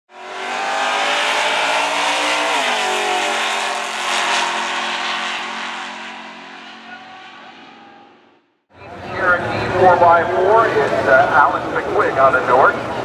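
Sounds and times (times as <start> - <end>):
truck engine revving: 0.1 - 13.0.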